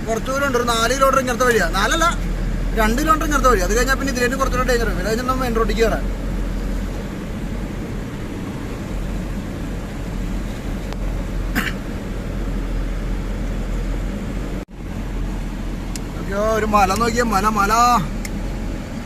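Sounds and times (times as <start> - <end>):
road noise: 0.0 - 19.0
truck diesel engine running: 0.0 - 19.0.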